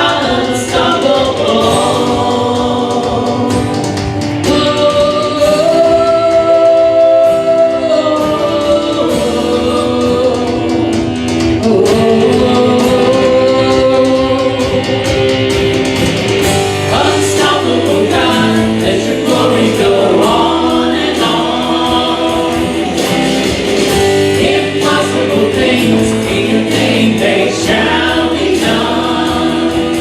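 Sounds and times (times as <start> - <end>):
guitar accompaniment: 0.0 - 30.0
voices singing held notes: 0.0 - 30.0.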